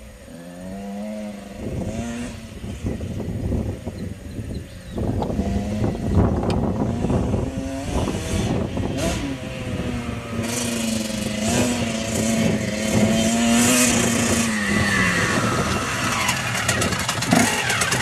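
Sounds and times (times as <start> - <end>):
dirt bike engine revving: 0.2 - 3.6, 5.0 - 18.0.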